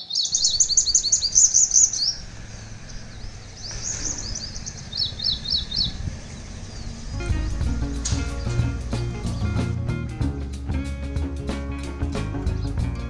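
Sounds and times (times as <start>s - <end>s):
sunbirds chirping: 0.0s - 13.0s.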